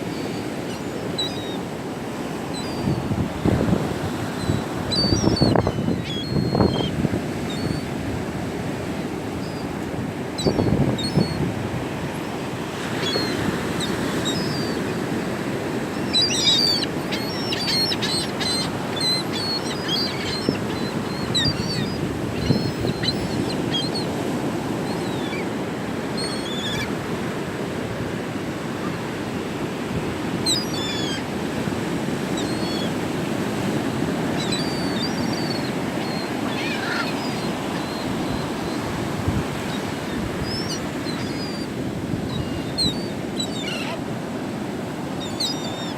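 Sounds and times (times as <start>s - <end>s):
seagulls calling: 0.0s - 3.1s, 3.7s - 27.6s, 30.3s - 45.9s
wind: 0.0s - 45.9s.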